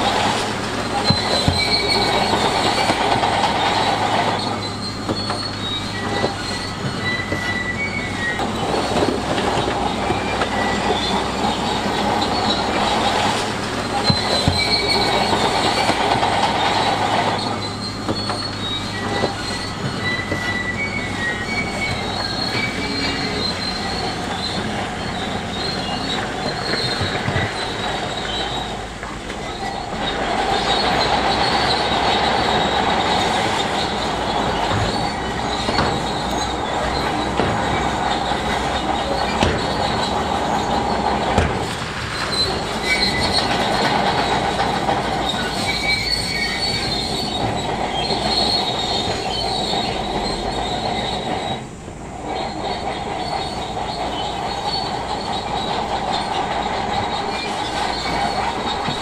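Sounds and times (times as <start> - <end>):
bulldozer diesel engine humming: 0.0 - 59.0
steel tracks squealing and clanking: 0.0 - 59.0.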